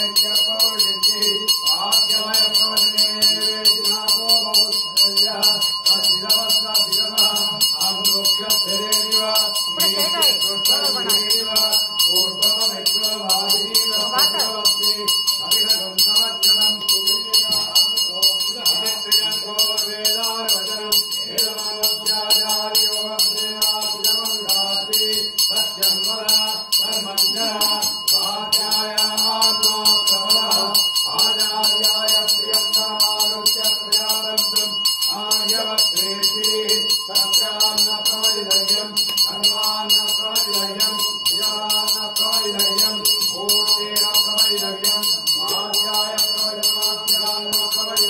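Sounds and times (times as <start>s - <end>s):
brass hand bell ringing rapidly: 0.0s - 48.0s
man chanting: 0.0s - 48.0s.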